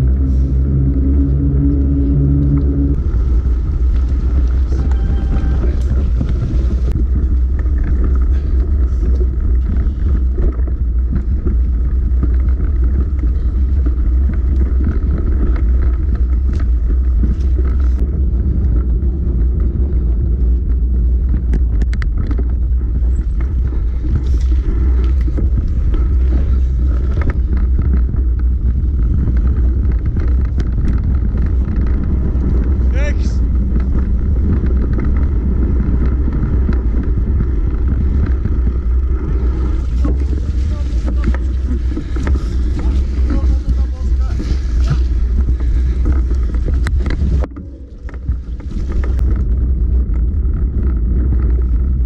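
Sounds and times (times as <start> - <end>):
bike tyres on dirt trail: 0.0 - 52.0
wind buffeting microphone: 0.0 - 52.0.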